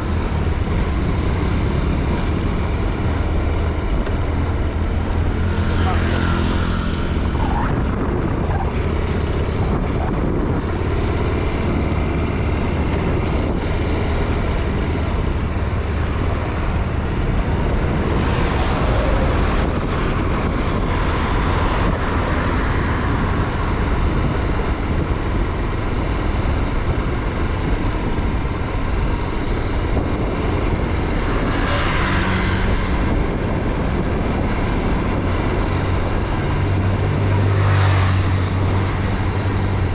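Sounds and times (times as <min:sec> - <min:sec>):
motorcycle engine rumble: 0:00.0 - 0:39.9
wind noise on microphone: 0:00.0 - 0:39.9.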